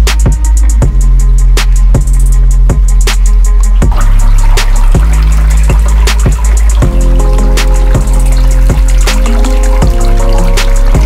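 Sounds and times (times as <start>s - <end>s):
drum beat with deep bass: 0.0s - 11.0s.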